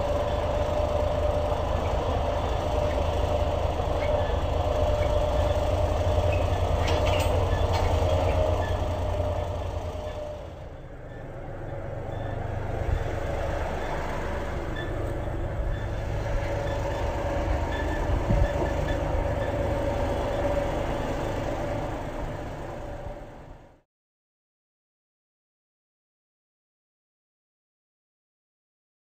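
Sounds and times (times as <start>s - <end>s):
tractor engine running: 0.0s - 23.8s.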